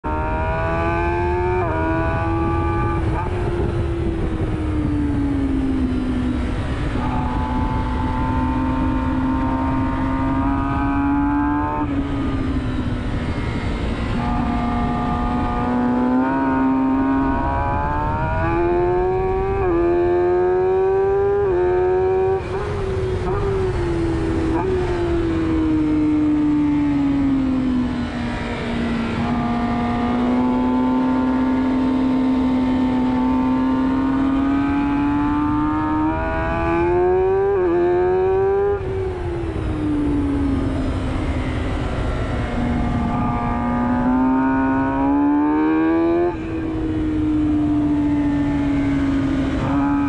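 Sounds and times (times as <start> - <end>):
motorcycle engine accelerating: 0.0 - 50.0
wind rush: 0.5 - 50.0.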